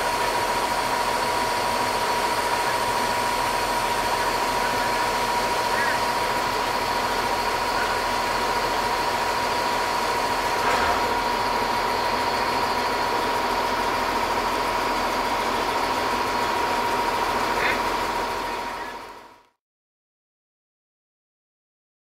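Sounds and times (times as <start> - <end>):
high whine: 0.0 - 19.2
diesel engine idling: 0.0 - 19.4.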